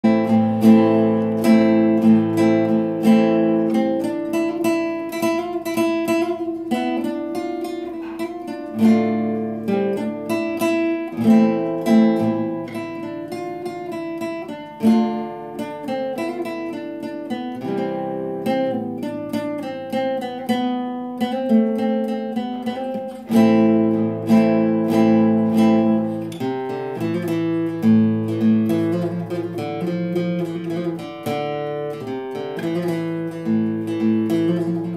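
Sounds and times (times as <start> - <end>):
classical guitar folk melody: 0.0 - 34.9.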